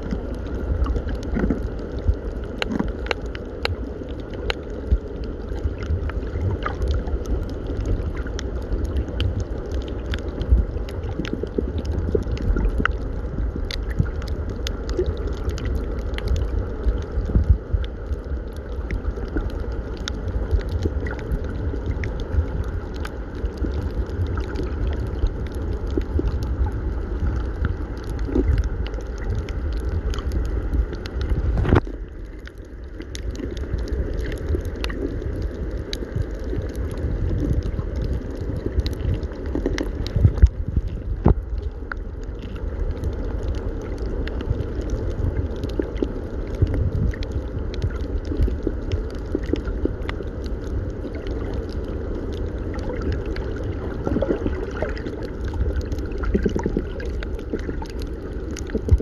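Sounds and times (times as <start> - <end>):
sea water gurgling and sloshing: 0.0 - 59.0
steady low rumble: 0.0 - 59.0.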